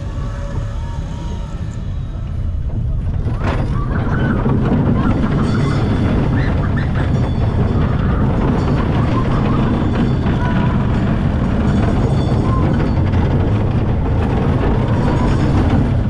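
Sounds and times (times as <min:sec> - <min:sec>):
roller coaster wheels rumbling on track: 0:00.0 - 0:16.0.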